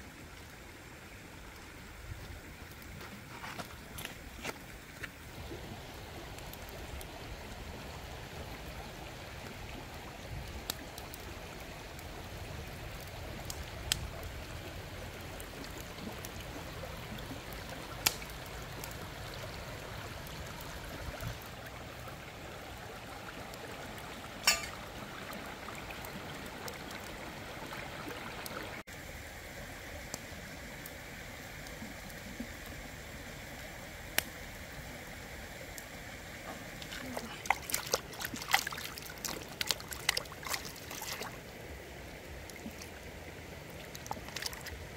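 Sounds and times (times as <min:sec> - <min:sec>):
river running over stones: 0:00.0 - 0:44.9.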